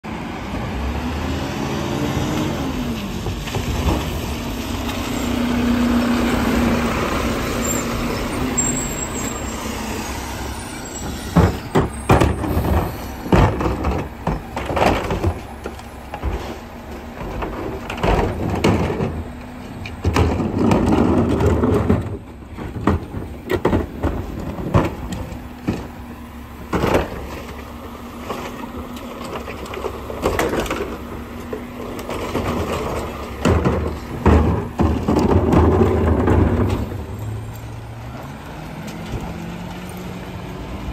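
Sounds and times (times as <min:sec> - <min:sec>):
garbage truck engine humming: 0:00.1 - 0:40.9
bins banging and clattering: 0:02.7 - 0:39.6.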